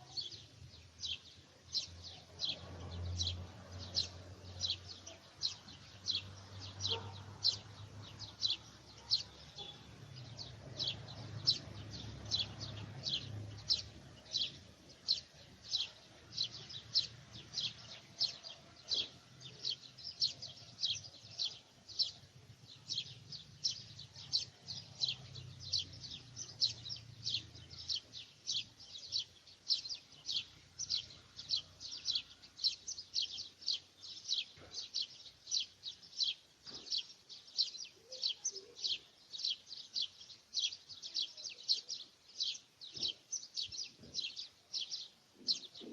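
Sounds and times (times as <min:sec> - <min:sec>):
bird chirping: 0:00.0 - 0:45.9.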